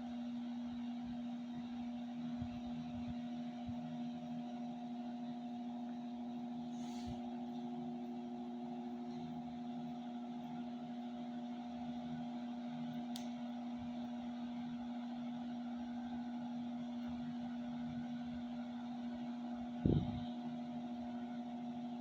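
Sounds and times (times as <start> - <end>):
desk fan running: 0.0 - 22.0.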